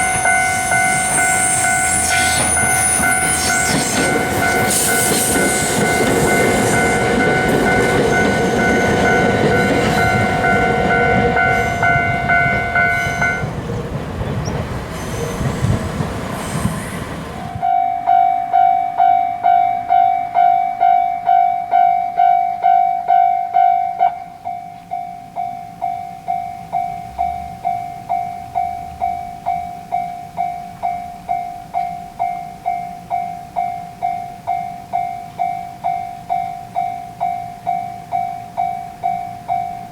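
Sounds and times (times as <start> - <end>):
level-crossing warning bell: 0.0 - 16.1, 17.4 - 39.9
train rumbling over crossing: 0.0 - 24.9, 26.2 - 39.9.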